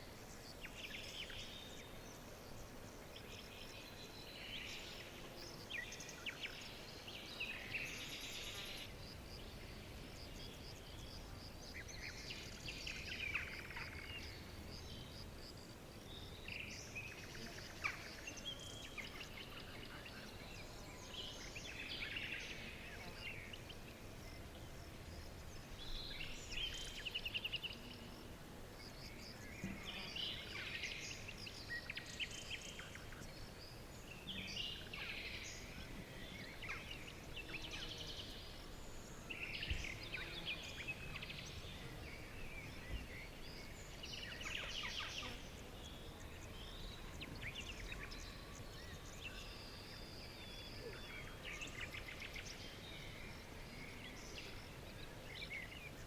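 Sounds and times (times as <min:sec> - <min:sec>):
background hiss: 0:00.0 - 0:56.0
songbirds chirping and trilling: 0:00.0 - 0:56.0.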